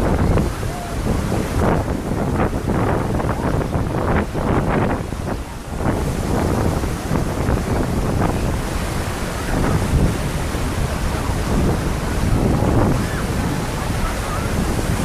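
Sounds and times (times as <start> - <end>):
surf washing onto shore: 0.0 - 15.0
wind buffeting microphone: 0.0 - 15.0.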